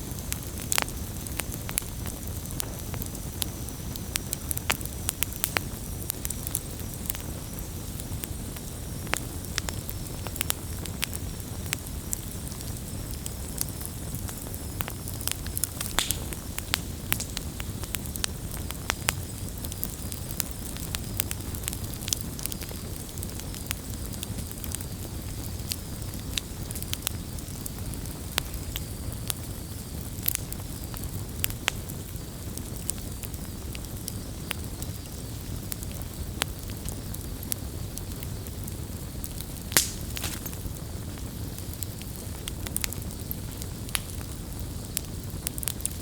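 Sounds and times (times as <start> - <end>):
campfire crackling and popping: 0.0 - 46.0.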